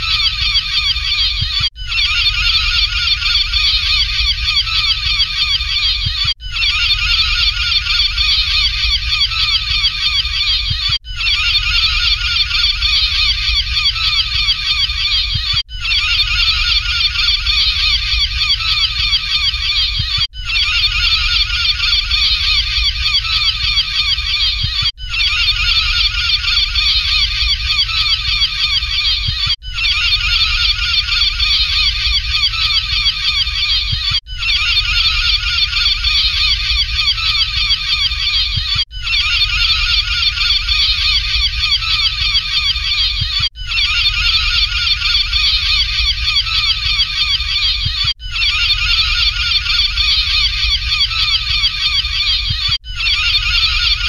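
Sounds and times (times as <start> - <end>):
flock of gulls calling: 0.0 - 54.0.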